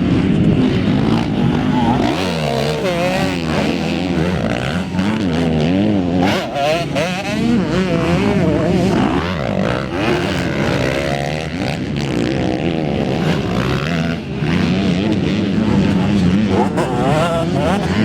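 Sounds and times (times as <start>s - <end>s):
racing motorcycles revving: 0.0s - 18.0s.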